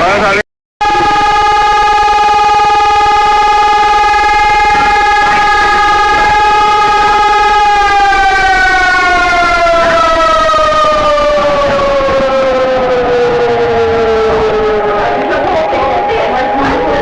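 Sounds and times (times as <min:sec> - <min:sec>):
civil defense siren: 0:00.8 - 0:17.0.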